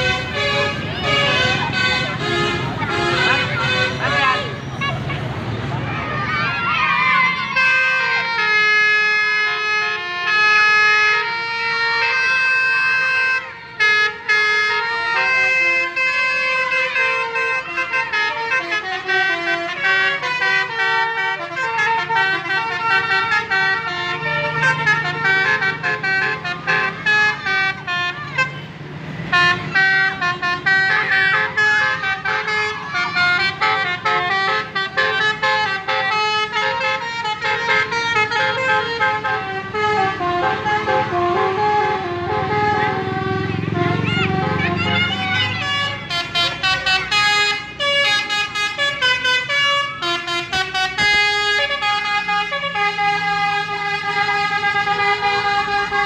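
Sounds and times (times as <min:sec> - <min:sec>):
multi-tone bus air horns: 0:00.0 - 0:05.5, 0:07.2 - 0:56.0.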